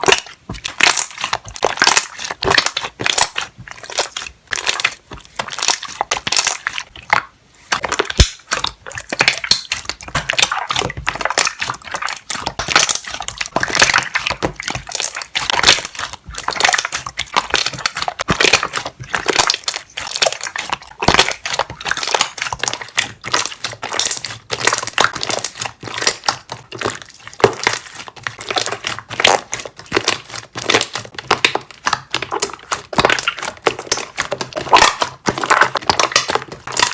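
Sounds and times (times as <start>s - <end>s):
air bubbles popping: 0.0s - 36.9s
slime squishing: 0.0s - 36.9s.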